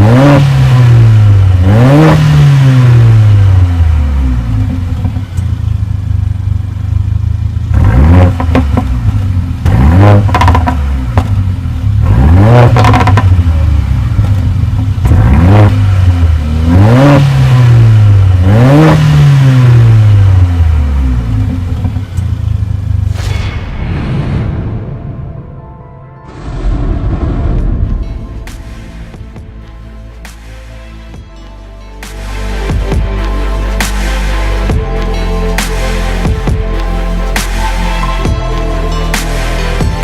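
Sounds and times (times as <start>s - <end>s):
car engine idling and revving: 0.0s - 23.2s, 27.5s - 40.0s.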